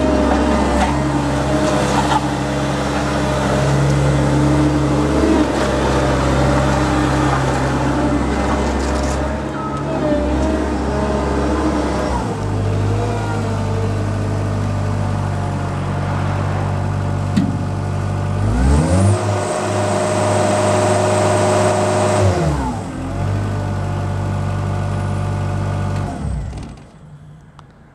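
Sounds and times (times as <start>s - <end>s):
diesel engine running and revving: 0.0s - 27.0s.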